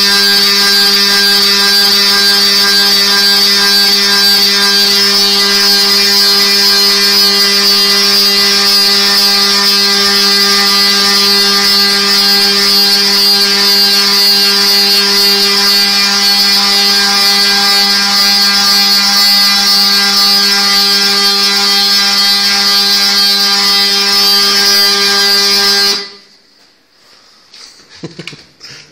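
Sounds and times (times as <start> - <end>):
motor drive whining: 0.0 - 26.2.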